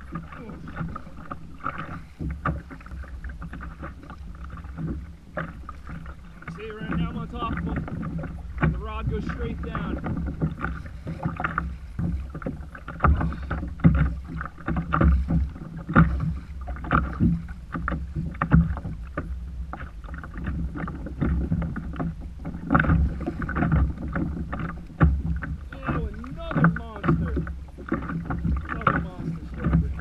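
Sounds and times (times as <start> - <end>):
low rumble of water and wind: 0.0 - 30.0
waves slapping kayak hull: 0.0 - 30.0.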